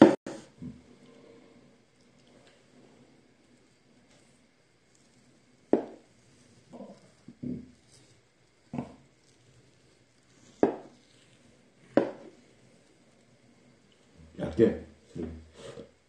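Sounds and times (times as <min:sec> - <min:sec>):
muffled meat handling: 0:00.6 - 0:16.0.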